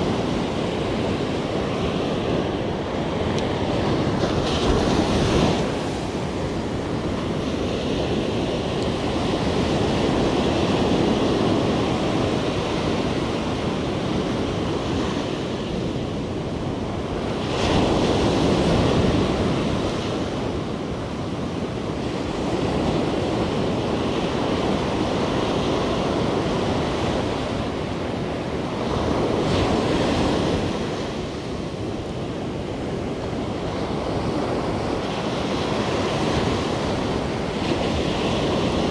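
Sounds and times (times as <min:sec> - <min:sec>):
surf breaking on beach: 0:00.0 - 0:38.9.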